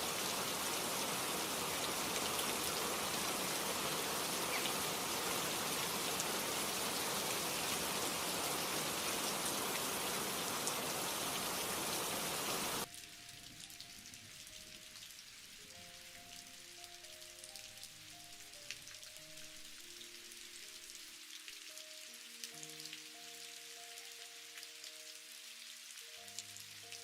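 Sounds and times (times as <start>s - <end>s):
faint hiss: 0.0s - 27.0s
steady rain hiss: 0.0s - 27.0s.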